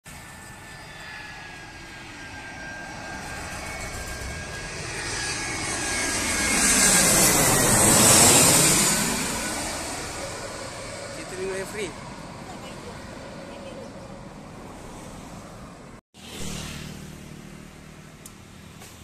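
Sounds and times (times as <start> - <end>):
jet airliner flying overhead: 0.0 - 19.0.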